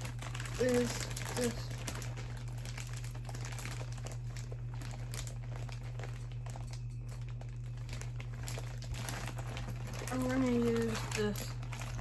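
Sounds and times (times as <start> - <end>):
plastic bags rustling: 0.0 - 12.0
steady low hum: 0.0 - 12.0.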